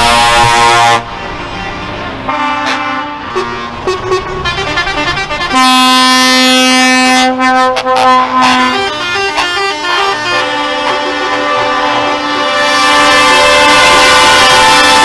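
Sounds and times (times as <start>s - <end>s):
truck air horns: 0.0s - 15.0s.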